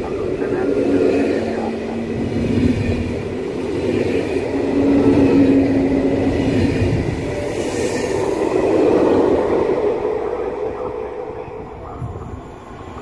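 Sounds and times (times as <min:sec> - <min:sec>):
low train hum: 0:00.0 - 0:13.0
train wheels rumbling on rail: 0:00.0 - 0:13.0.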